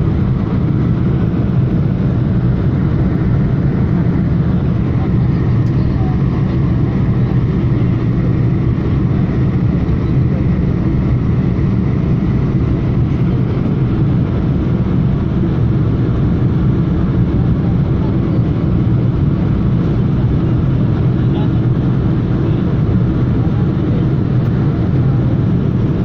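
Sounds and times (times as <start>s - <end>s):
airliner rumble: 0.0s - 26.0s.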